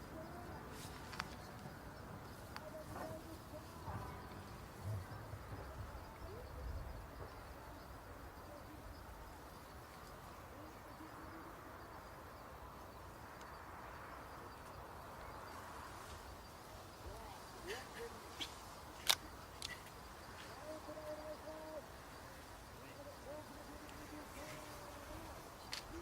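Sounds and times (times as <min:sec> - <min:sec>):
distant indistinct voices: 0:00.0 - 0:26.0.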